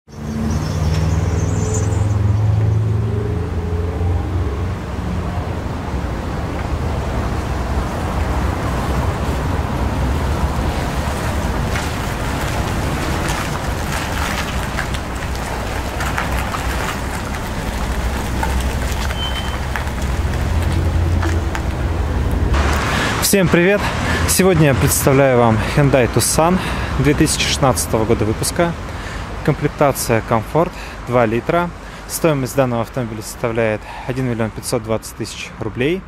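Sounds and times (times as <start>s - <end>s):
road traffic rumble: 0.1s - 36.0s.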